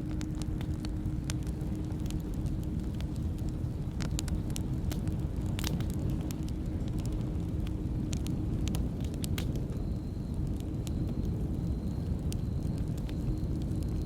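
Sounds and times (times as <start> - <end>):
burning logs crackling and popping: 0.0 - 14.0
low rumble of flames: 0.0 - 14.0.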